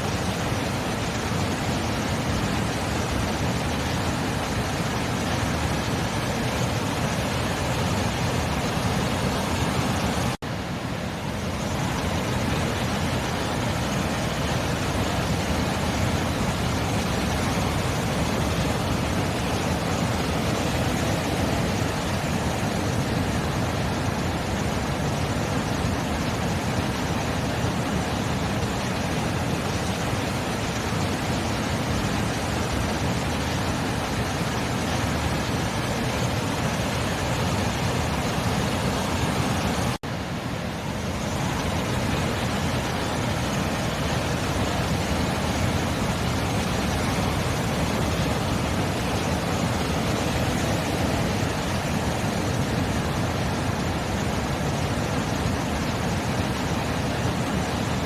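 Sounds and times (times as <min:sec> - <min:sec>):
sea waves washing: 0:00.0 - 0:58.0.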